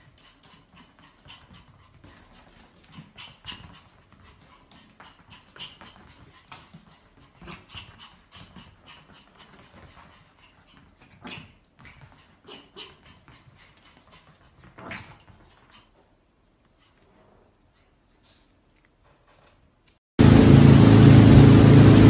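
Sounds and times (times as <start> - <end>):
dog play noises: 0.0 - 19.8.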